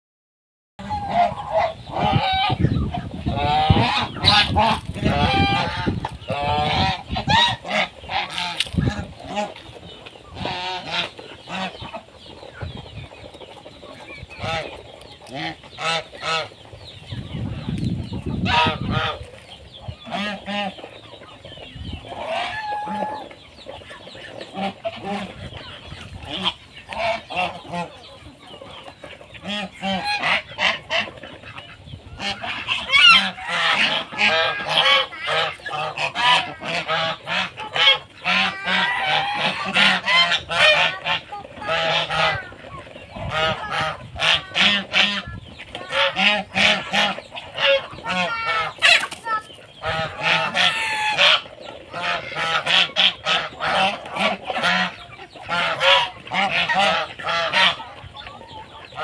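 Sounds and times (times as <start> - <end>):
geese honking: 0.8 - 59.0.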